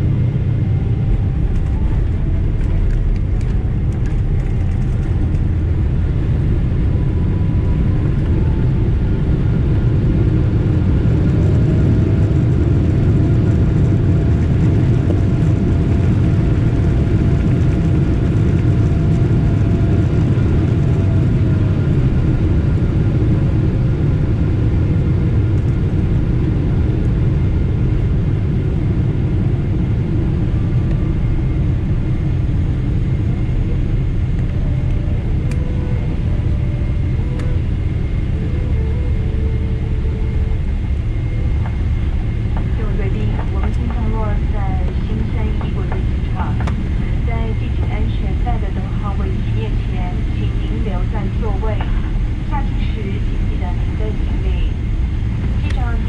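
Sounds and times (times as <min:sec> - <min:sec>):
faint rising whine: 0:00.0 - 0:56.0
low rumble in aircraft cabin: 0:00.0 - 0:56.0.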